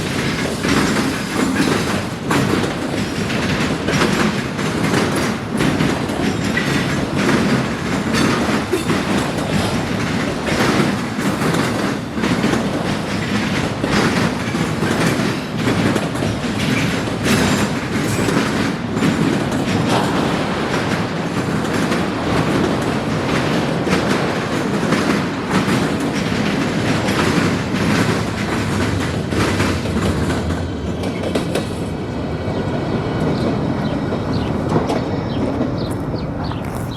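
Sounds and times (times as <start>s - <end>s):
train wheels clattering over crossing: 0.0s - 36.9s.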